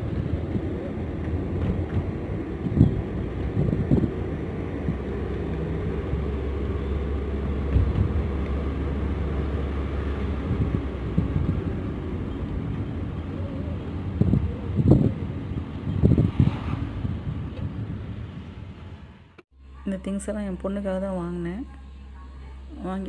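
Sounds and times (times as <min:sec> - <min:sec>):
low bumps: 0:00.0 - 0:19.4
vehicle engine and road noise: 0:00.0 - 0:23.0.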